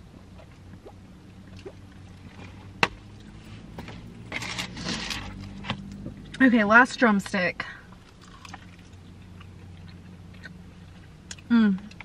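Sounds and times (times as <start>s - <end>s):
low hum in car cabin: 0.0s - 12.0s.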